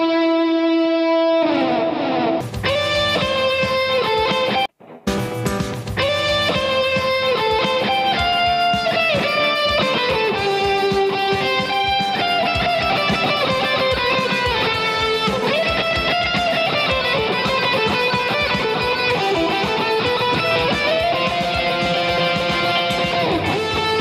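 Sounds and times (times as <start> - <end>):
electric guitar solo: 0.0 - 24.0.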